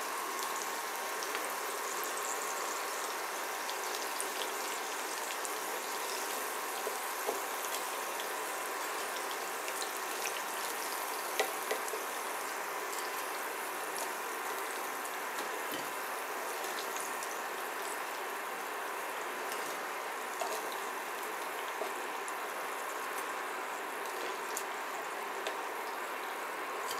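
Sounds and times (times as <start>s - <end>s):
oil sizzling and crackling: 0.0s - 26.9s.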